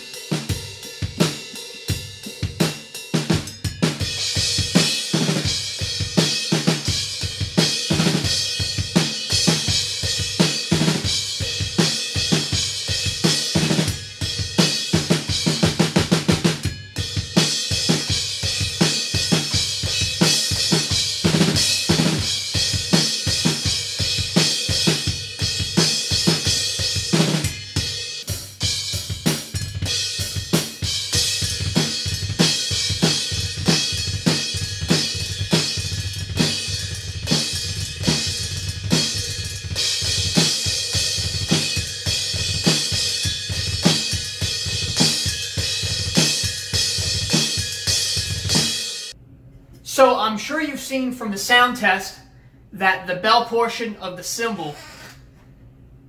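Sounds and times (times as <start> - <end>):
drum kit rock groove: 0.0 - 49.2.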